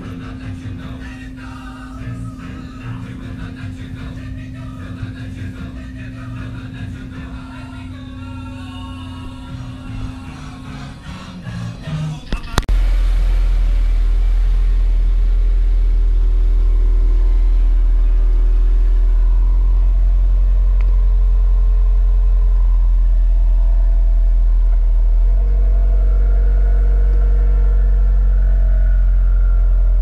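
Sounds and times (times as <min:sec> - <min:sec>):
car exhaust idling: 0:00.0 - 0:30.0.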